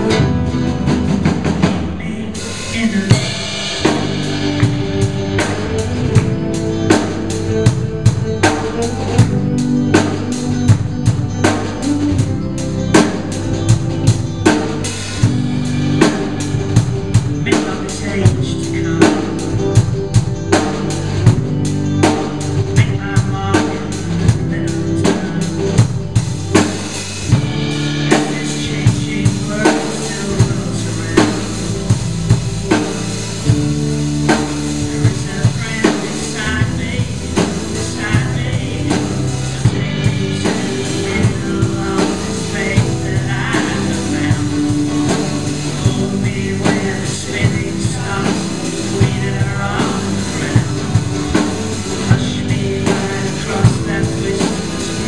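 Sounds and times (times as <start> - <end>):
bass guitar: 0.0 - 55.0
drum kit beat: 0.0 - 55.0
electric guitars: 0.0 - 55.0
strummed acoustic guitar: 0.0 - 55.0.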